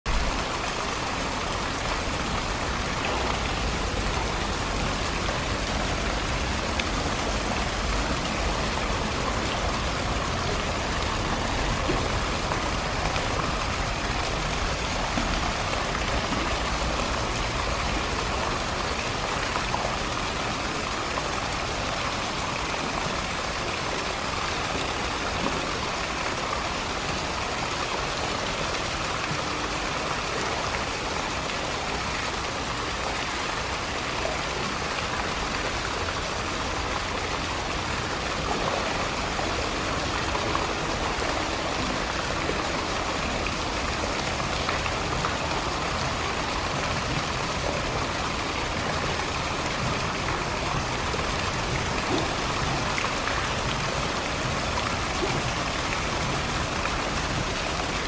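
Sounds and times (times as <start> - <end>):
running water rushing: 0.1 - 58.0.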